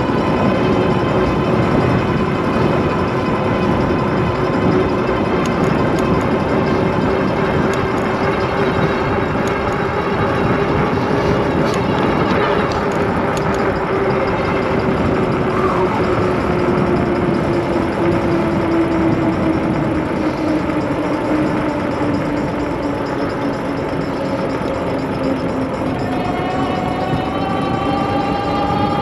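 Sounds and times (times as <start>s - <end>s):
electric motor whining: 0.0s - 29.0s
wind rush on microphone: 0.0s - 29.0s.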